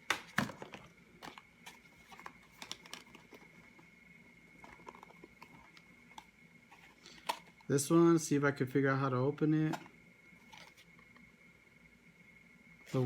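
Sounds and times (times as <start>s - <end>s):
faint steady high whine: 0.0s - 13.0s.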